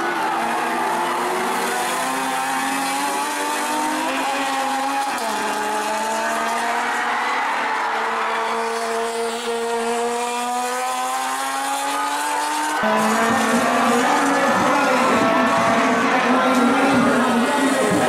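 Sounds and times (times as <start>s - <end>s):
racing car engines at high revs: 0.0s - 18.0s.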